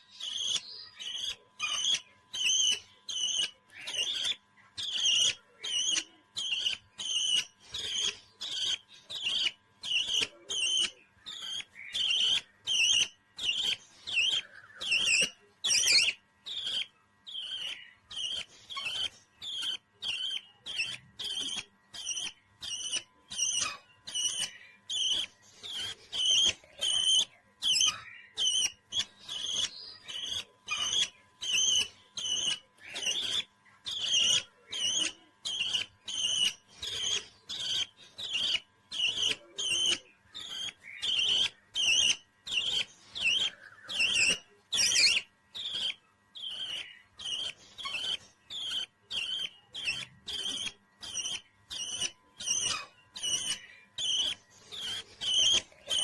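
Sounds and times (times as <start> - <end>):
parrot chirping calls: 0.0 - 56.0.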